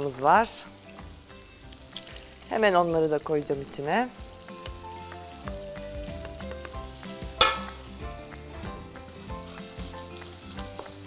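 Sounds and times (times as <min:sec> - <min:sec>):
meat and onions sizzling in wok: 0:00.0 - 0:11.0.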